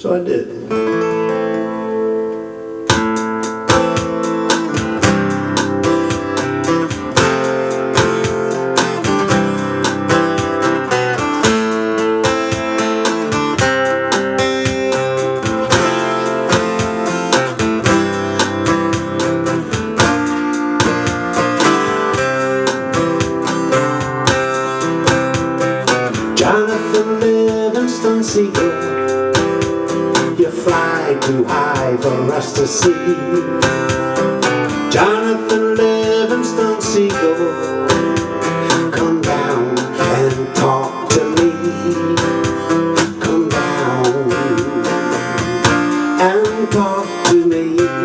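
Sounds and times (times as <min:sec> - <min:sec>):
acoustic guitar strumming: 0:00.0 - 0:48.0.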